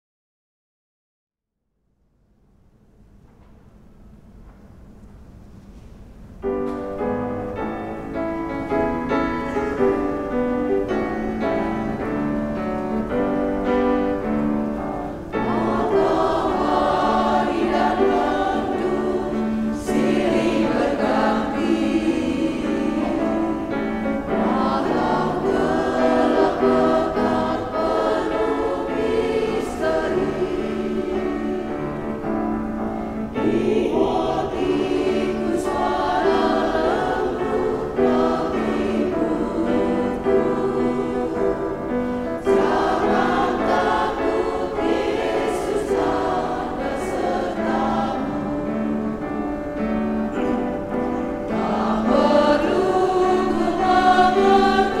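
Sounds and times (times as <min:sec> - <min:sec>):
women's choir singing a hymn: 0:06.5 - 0:55.0.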